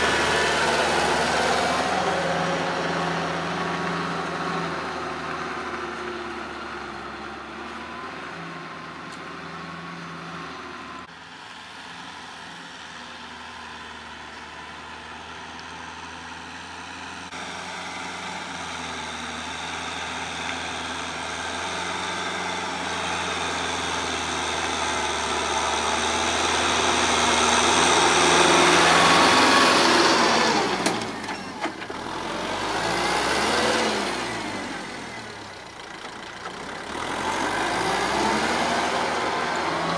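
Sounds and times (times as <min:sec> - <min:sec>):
tractor diesel engine passing: 0:00.0 - 0:39.9.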